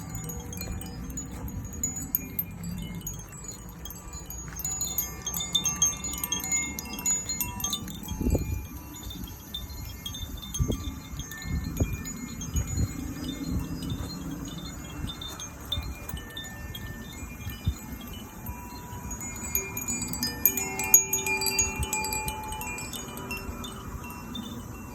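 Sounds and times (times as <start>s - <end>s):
wind chimes tinkling: 0.0s - 24.9s.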